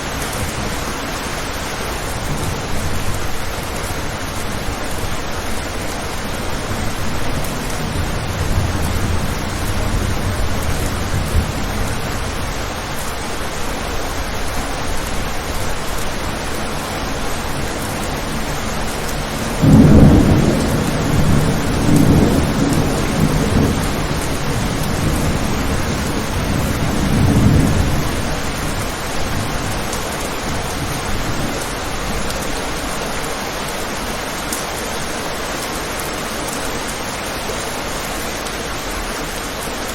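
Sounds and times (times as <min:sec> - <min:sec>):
thunder rumbling: 0:00.0 - 0:33.0
steady rain: 0:00.0 - 0:39.9.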